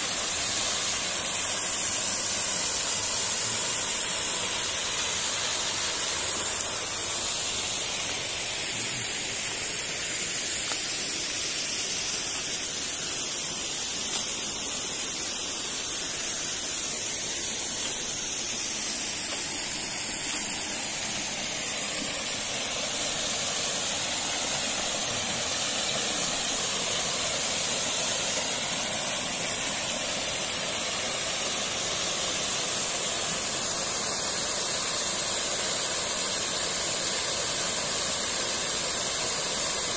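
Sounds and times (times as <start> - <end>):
waterfall rushing hiss: 0.0 - 39.9.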